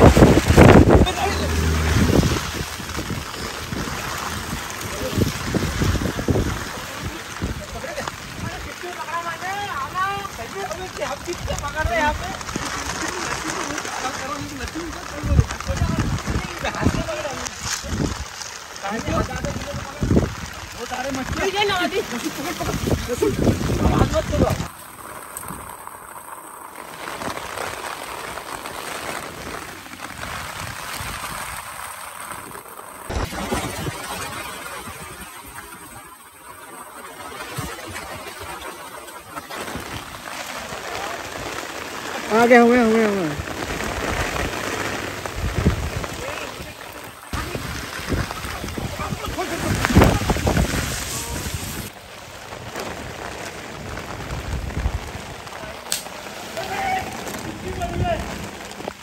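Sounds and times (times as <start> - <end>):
people wading and splashing: 0.0 - 59.0
running water rushing: 0.0 - 59.0.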